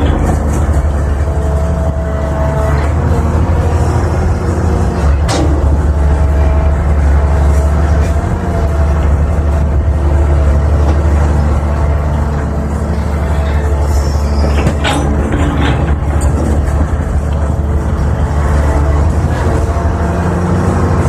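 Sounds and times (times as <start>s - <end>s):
excavator diesel engine drone: 0.0s - 21.0s.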